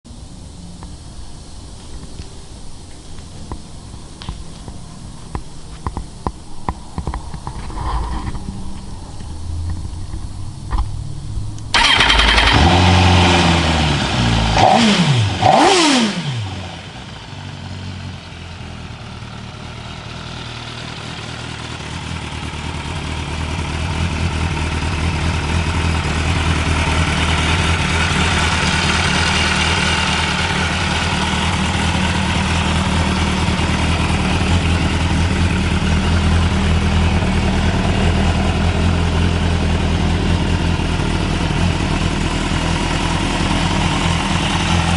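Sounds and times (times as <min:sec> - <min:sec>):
motorcycle engine revving and idling: 0:03.9 - 0:44.9.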